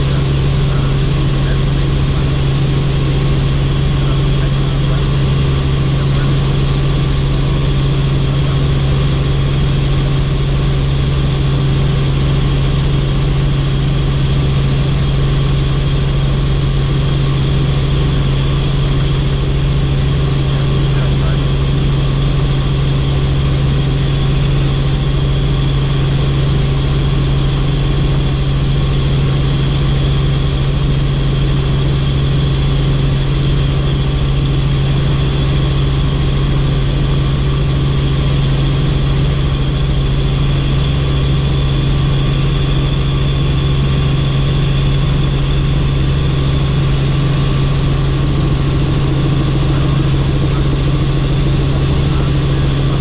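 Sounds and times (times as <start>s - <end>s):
helicopter drone: 0.0s - 53.0s.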